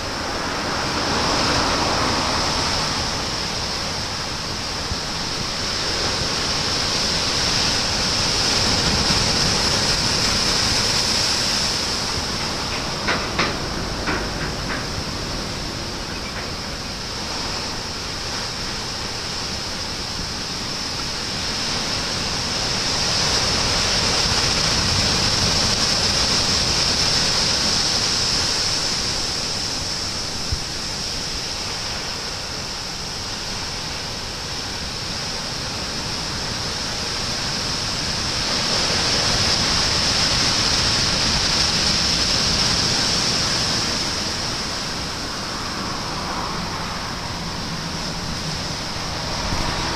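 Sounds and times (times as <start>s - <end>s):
heavy surf breaking waves: 0.0s - 49.9s.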